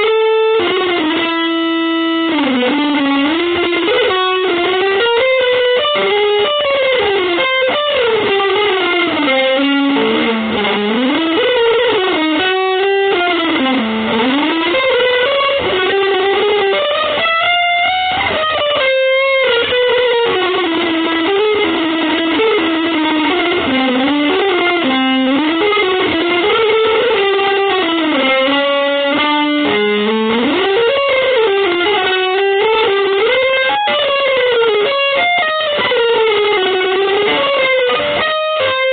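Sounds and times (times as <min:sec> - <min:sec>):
electric guitar melody with bends: 0:00.0 - 0:38.9.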